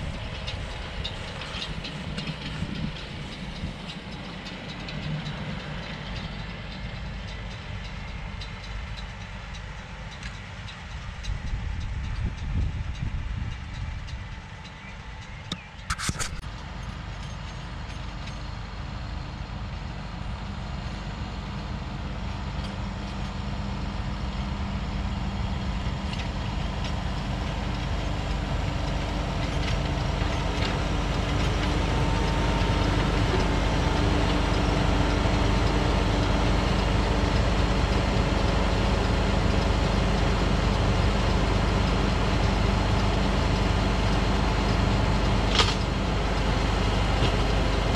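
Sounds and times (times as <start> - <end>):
tractor engine running under load: 0.0 - 47.9.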